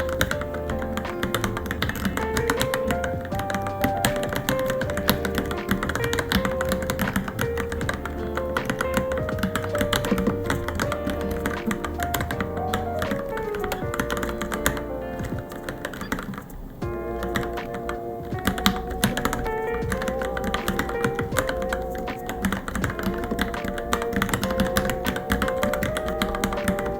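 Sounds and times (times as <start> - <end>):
background music with melody: 0.0 - 26.9.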